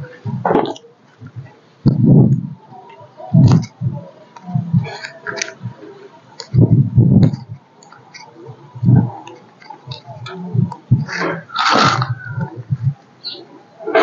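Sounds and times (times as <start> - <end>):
dull low thumps: 0.0 - 5.8, 6.4 - 7.8, 8.4 - 13.0.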